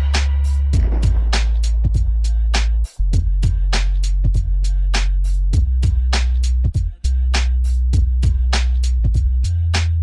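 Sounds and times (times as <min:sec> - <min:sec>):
bass-heavy music with percussion beat: 0:00.0 - 0:10.0.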